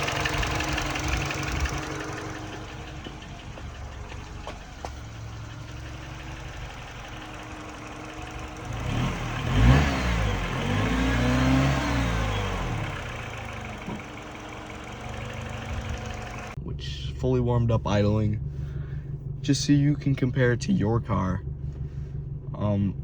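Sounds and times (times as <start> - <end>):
car engine idling with knock: 0.0 - 23.0
engine revving: 0.0 - 23.0.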